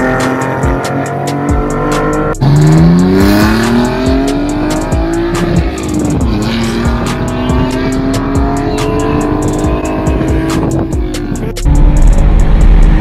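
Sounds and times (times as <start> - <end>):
car exhaust accelerating: 0.0 - 13.0
music with steady beat: 0.0 - 13.0.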